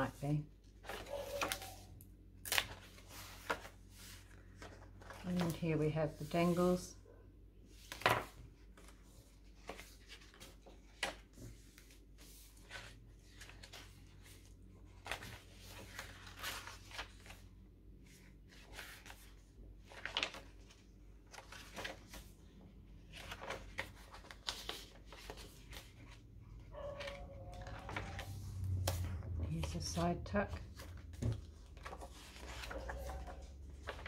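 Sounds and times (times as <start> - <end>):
paper pages rustling: 0.6 - 6.6, 7.8 - 34.0.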